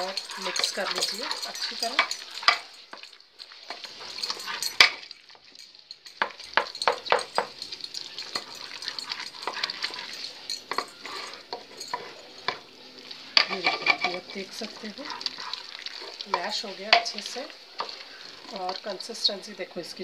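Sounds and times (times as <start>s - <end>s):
metal spoon scraping steel pot: 0.0s - 5.1s, 6.1s - 12.5s, 13.3s - 18.8s.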